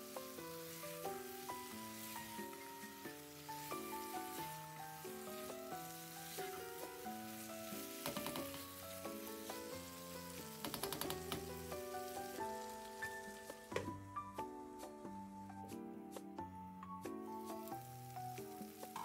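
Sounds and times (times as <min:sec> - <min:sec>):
masala sizzling in a pan: 0:00.0 - 0:15.8, 0:17.0 - 0:19.0
background melody: 0:00.0 - 0:19.0.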